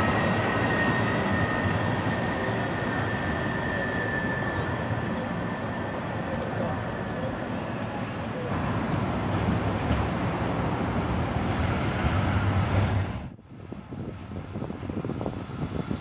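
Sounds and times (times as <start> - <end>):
street noise: 0.0 - 16.0
tram rumbling along street: 0.0 - 16.0.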